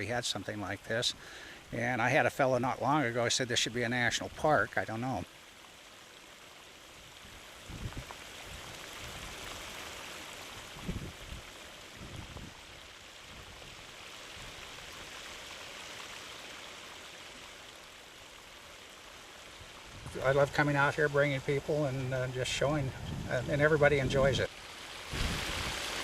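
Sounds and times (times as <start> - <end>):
hot water jetting and splashing: 0.0 - 26.0.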